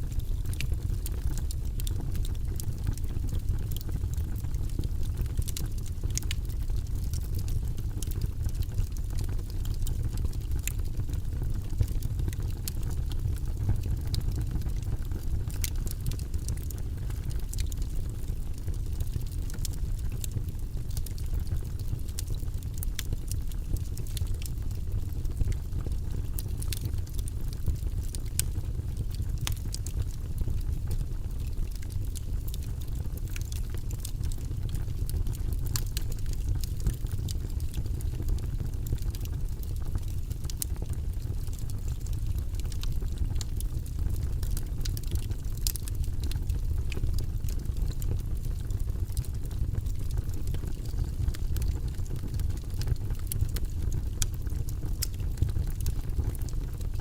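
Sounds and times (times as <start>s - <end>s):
burning wood crackling and popping: 0.0s - 57.0s
fire flames rumbling: 0.0s - 57.0s.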